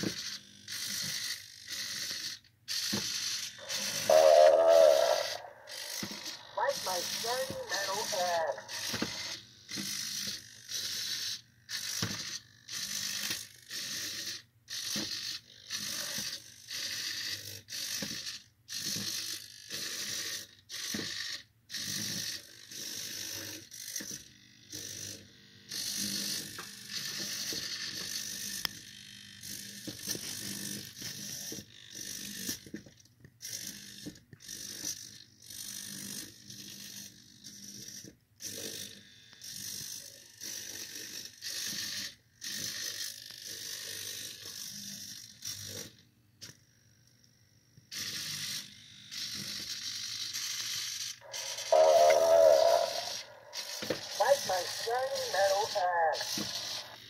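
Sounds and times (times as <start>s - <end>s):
toy robot gear whir: 0.0s - 57.0s.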